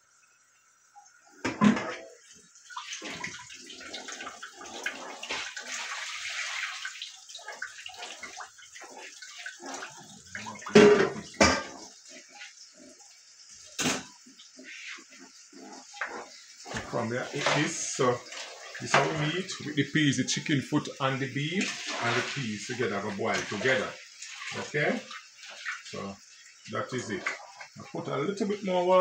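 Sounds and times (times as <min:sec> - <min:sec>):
water pouring into pot: 0:00.0 - 0:29.0.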